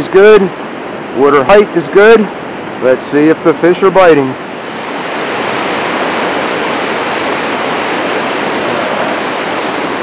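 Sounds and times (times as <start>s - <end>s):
river water rushing over rapids: 0.0s - 10.0s.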